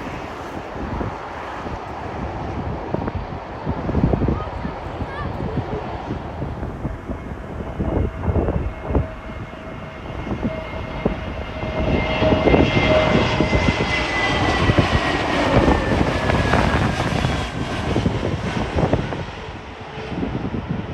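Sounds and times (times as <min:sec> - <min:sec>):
airliner engines whine: 0:00.0 - 0:20.9
wind buffeting microphone: 0:00.0 - 0:20.9.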